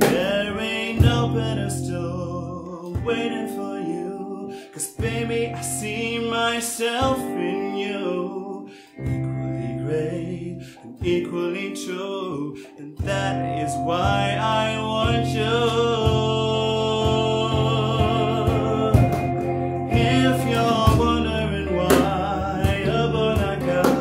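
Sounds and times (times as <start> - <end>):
bass guitar: 0.0 - 8.2, 8.8 - 24.0
acoustic guitar: 0.0 - 24.0
man singing: 0.0 - 24.0.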